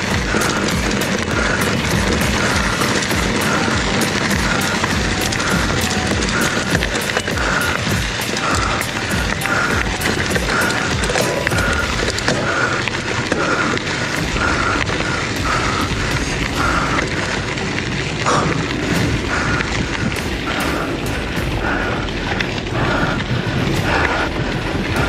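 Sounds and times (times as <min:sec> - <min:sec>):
tyres rumbling on trail: 0:00.0 - 0:25.0
wind buffeting microphone: 0:00.0 - 0:25.0.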